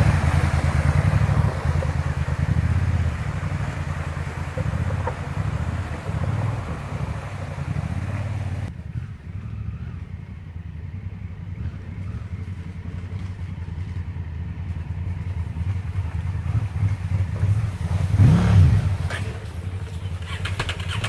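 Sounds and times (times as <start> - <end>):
motorcycle engines rumbling: 0.0 - 21.0.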